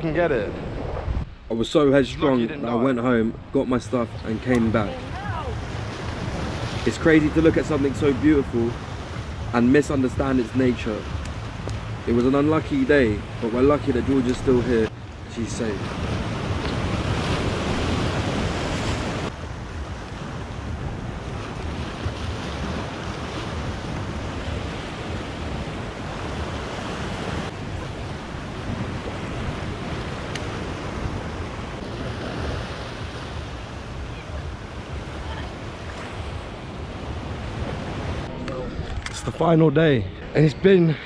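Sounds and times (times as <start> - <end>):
wind buffeting microphone: 0.0 - 12.3, 12.9 - 41.0.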